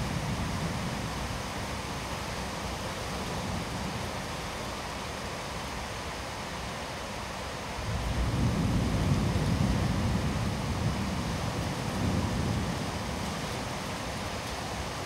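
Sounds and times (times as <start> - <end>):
torrential rain hissing: 0.0 - 15.0.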